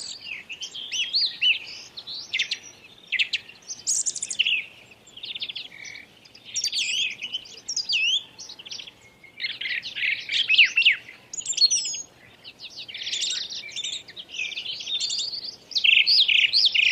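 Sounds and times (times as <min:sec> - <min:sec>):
bird singing: 0:00.0 - 0:16.9.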